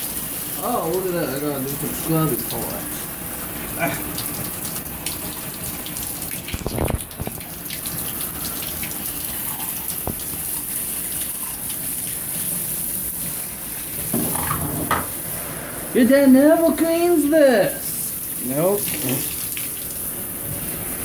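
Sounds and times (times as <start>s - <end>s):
shower water running: 0.0s - 21.0s.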